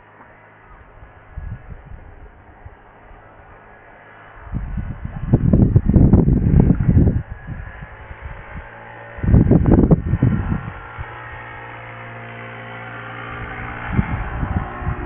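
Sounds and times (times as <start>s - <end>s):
engine humming: 0.0s - 15.0s
wind buffeting microphone: 0.6s - 12.0s, 12.7s - 15.0s.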